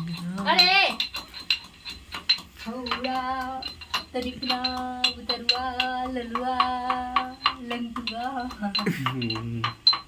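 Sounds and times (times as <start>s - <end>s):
pestle clinking in metal cup: 0.0s - 10.0s.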